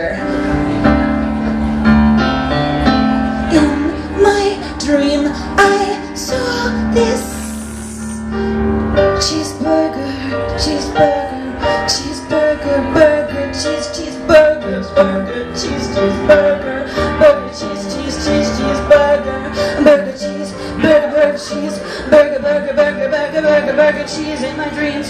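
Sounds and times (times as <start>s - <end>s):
electronic keyboard chords: 0.0s - 25.0s
woman singing with vibrato: 3.4s - 8.4s, 9.0s - 25.0s.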